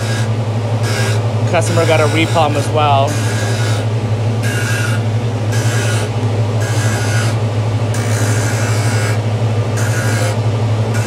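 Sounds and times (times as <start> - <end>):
steel blade grinding hiss: 0.0 - 9.2, 9.8 - 11.0
grinding wheel motor hum: 0.0 - 11.0.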